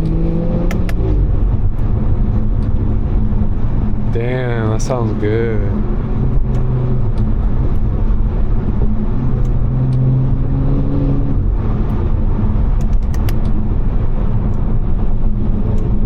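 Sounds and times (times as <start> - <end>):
car engine running while driving: 0.0 - 16.0
road rumble: 0.0 - 16.0.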